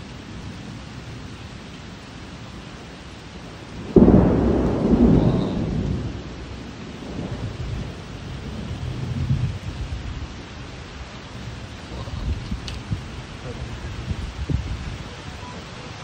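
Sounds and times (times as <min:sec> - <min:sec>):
steady rain: 0:00.0 - 0:16.0
thunderclap rumbling: 0:02.6 - 0:16.0.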